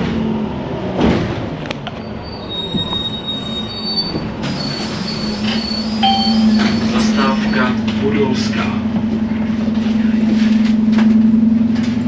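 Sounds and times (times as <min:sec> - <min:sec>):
bus running and road noise: 0:00.0 - 0:12.0.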